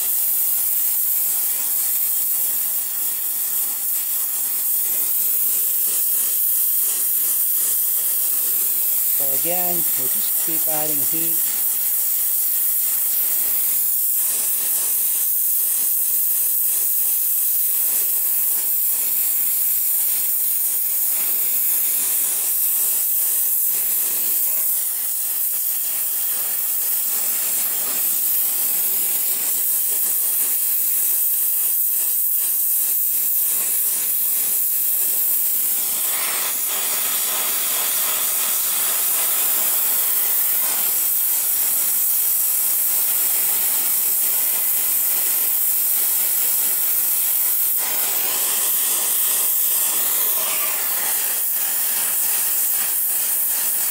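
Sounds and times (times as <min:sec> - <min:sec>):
gas torch flame hissing: 0:00.0 - 0:53.9.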